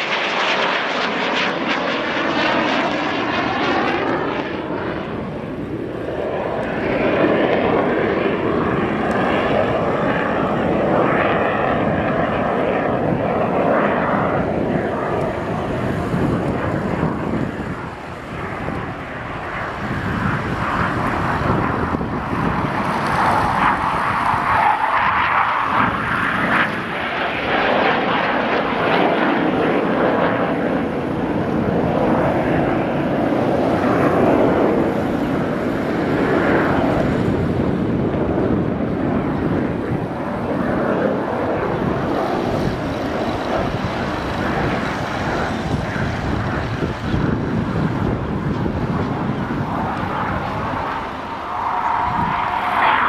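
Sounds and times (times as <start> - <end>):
jet engine rushing overhead: 0.0 - 53.0.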